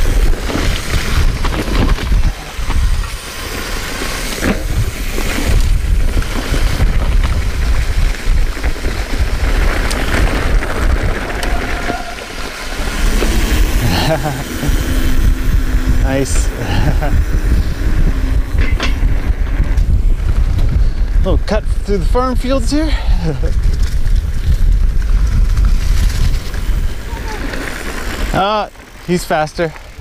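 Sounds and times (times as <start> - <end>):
wind buffeting microphone: 0.0 - 28.8
bike rattling over bumps: 0.0 - 30.0
tyre noise over leaves and dirt: 0.0 - 30.0.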